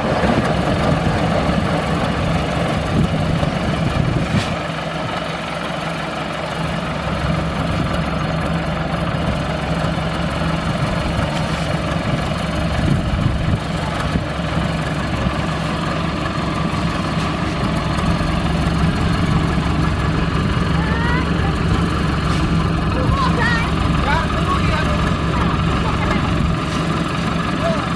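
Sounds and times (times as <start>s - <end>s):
combine harvester engine drone: 0.0s - 27.9s.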